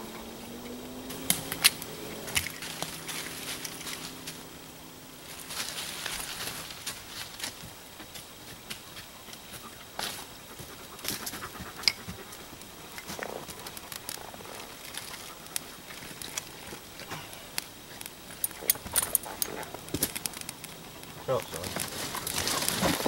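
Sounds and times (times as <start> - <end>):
tinder scraping and crackling: 0.0 - 23.0.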